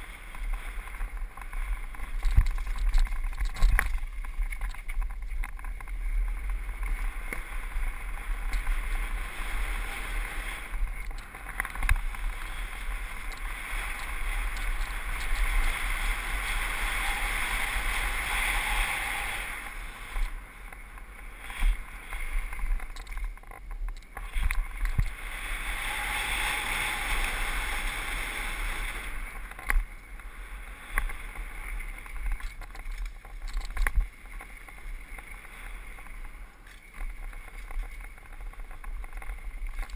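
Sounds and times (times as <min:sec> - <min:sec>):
bike tyres on packed dirt: 0:00.0 - 0:39.9
wind rushing on microphone: 0:00.0 - 0:39.9.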